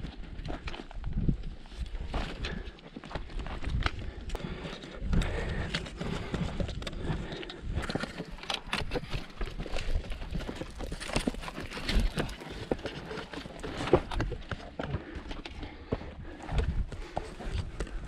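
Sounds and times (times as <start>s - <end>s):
footsteps on rocky ground: 0.0s - 18.0s.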